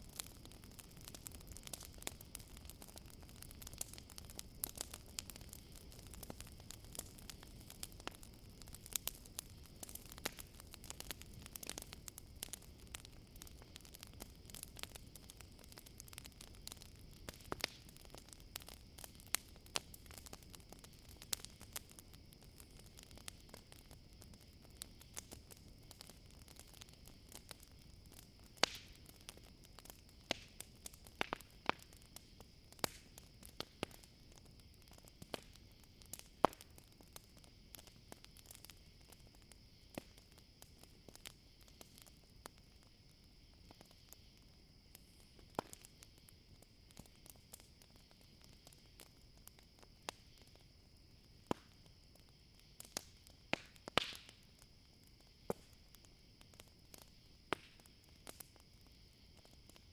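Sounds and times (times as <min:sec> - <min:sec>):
campfire crackling and popping: 0:00.0 - 0:59.9
crickets chirring: 0:00.0 - 0:59.9.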